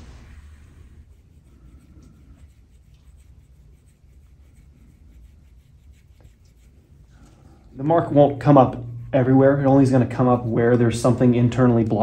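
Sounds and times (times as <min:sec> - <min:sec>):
tool scraping skin: 0:01.0 - 0:11.3.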